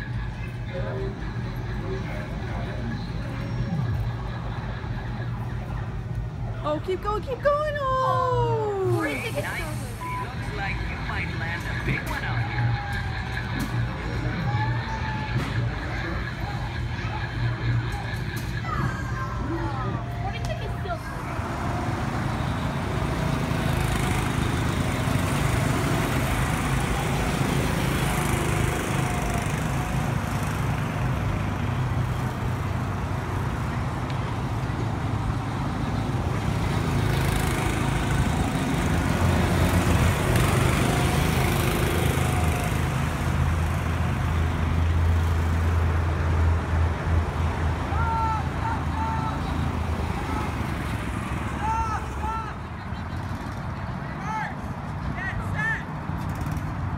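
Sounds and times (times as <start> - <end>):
go-kart engines running: 0.0 - 56.9.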